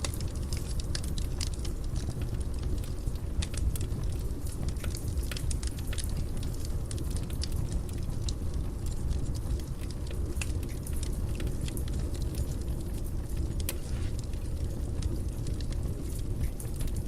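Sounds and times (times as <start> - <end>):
burning wood crackling and popping: 0.0 - 17.0
fire flames rumbling: 0.0 - 17.0.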